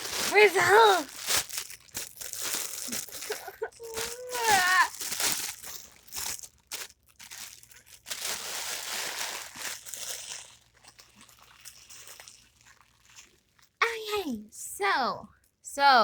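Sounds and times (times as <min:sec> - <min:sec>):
balloon skin crinkling: 0:00.0 - 0:13.8.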